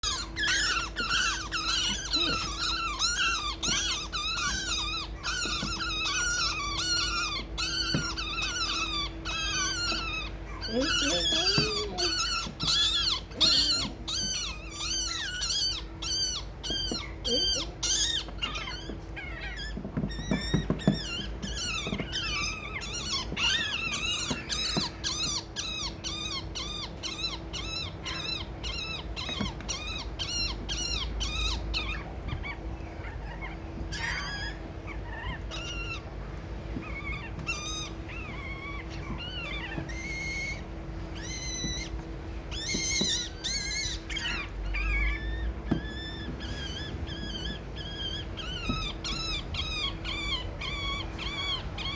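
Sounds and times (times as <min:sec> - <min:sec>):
baby birds chirping: 0:00.0 - 0:51.9
steady low hum: 0:00.0 - 0:51.9.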